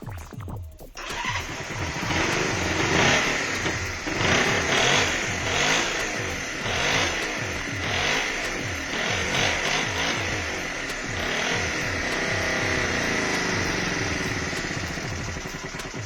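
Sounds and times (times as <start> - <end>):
background music with steady beat: 0.0 - 16.0
motorcycle engine revving: 1.0 - 16.0.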